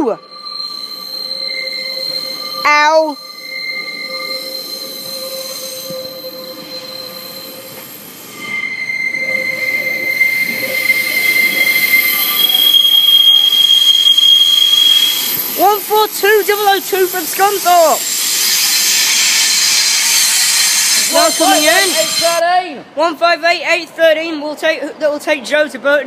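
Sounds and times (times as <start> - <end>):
train wheels squealing: 0.0 - 22.4.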